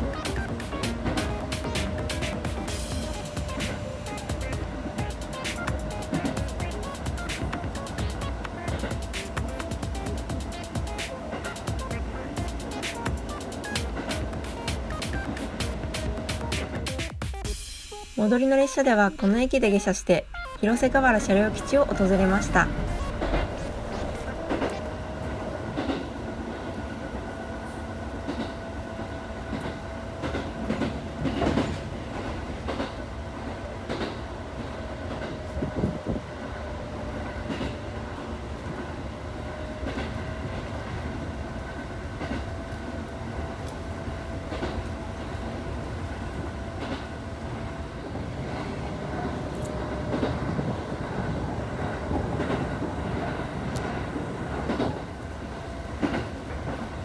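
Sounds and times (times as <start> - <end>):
train running noise with whine: 0.0 - 57.0.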